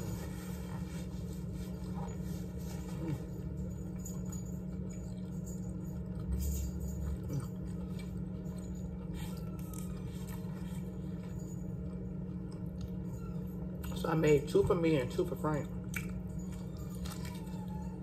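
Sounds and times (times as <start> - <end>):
person chewing food: 0.0 - 13.9, 15.8 - 17.8
low room hum: 0.0 - 18.0.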